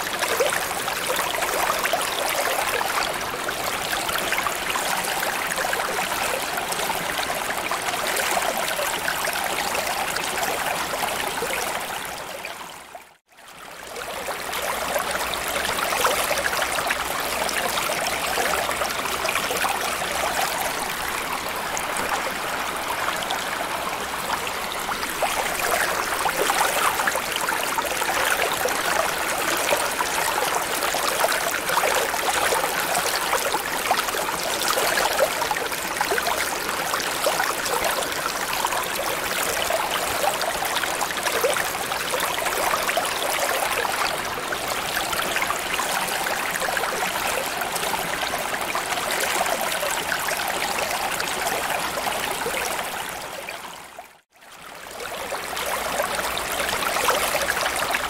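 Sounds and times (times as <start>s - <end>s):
water bubbling and trickling: 0.0s - 58.0s.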